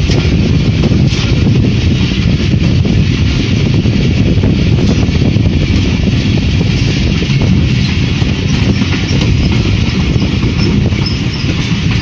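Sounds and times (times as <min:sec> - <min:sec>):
train rumbling: 0:00.0 - 0:12.0
wheels clattering over rails: 0:00.0 - 0:12.0.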